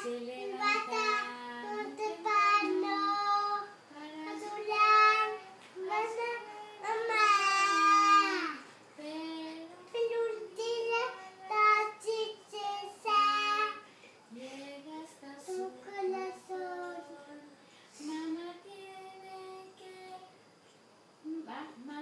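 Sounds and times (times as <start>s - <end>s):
boy singing: 0.0s - 13.8s, 14.5s - 20.3s.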